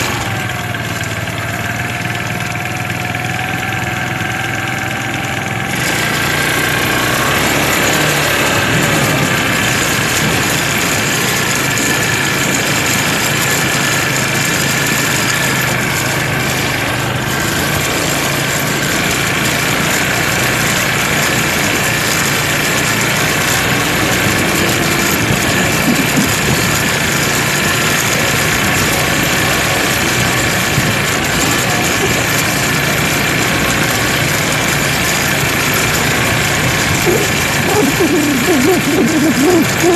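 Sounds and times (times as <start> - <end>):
quad bike engines running: 0.0 - 39.9.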